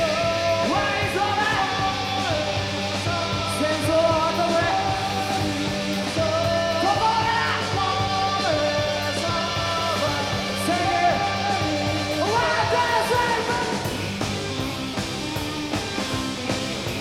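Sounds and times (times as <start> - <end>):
person singing: 0.0 - 14.0
rock band playing live: 0.0 - 17.0.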